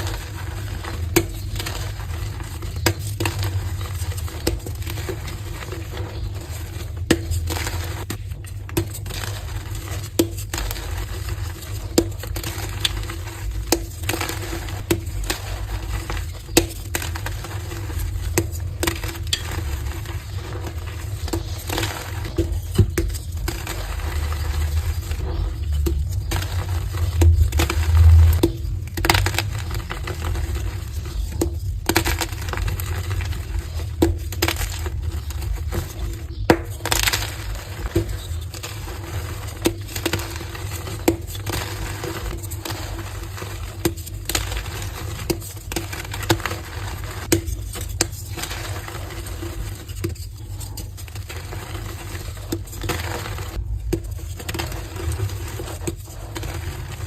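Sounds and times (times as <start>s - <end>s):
chalk blocks crunching: 0.0s - 57.0s.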